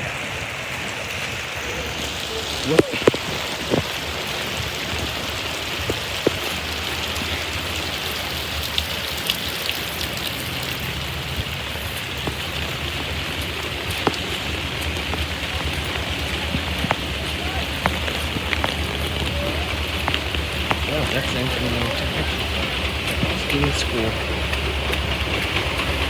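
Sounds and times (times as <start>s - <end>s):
steady rain falling: 0.0s - 26.0s
drops ticking close by: 2.6s - 26.0s.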